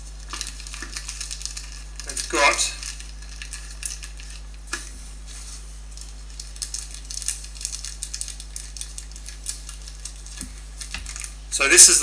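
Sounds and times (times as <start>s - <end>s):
plastic bag rustling: 0.0s - 11.5s
low electrical hum: 0.0s - 12.0s.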